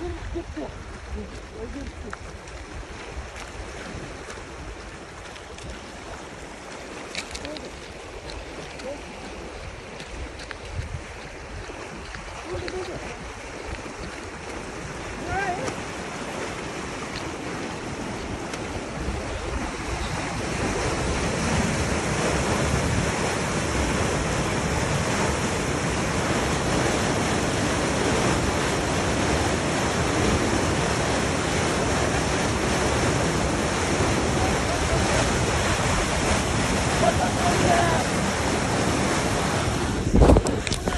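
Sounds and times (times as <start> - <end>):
water gushing into a canal: 0.0 - 40.9.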